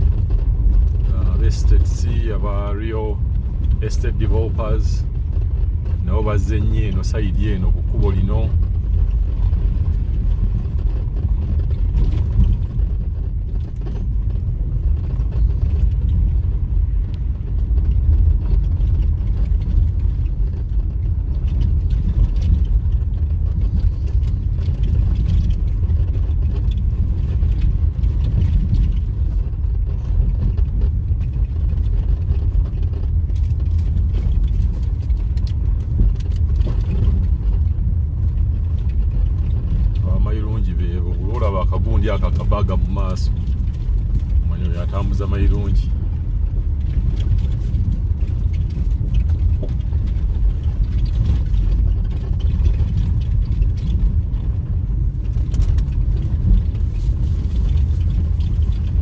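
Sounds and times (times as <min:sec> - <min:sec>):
light rattles: 0:00.0 - 0:59.0
vehicle engine and road noise: 0:00.0 - 0:59.0.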